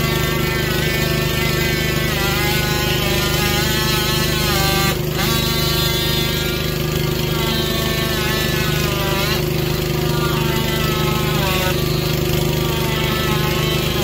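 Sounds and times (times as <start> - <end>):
lift engine running: 0.0 - 14.0.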